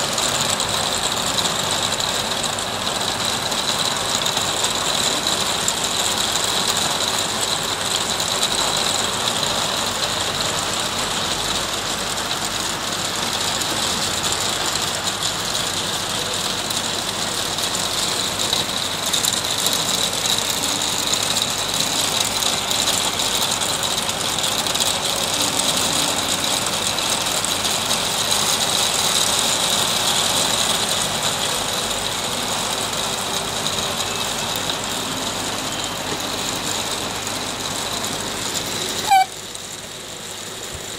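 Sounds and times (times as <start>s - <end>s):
hail pelting a roof: 0.0s - 40.9s.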